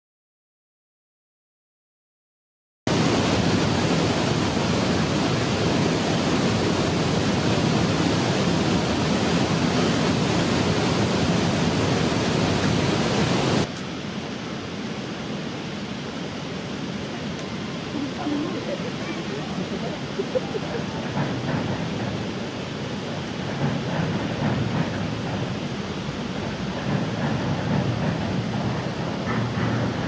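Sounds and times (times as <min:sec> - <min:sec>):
steady rushing noise: 0:02.9 - 0:30.0.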